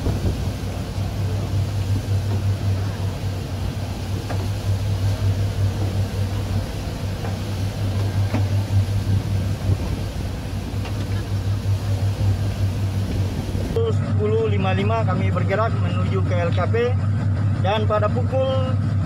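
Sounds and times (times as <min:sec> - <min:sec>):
faint voices: 0:00.0 - 0:16.9
ship engine droning: 0:00.0 - 0:19.0.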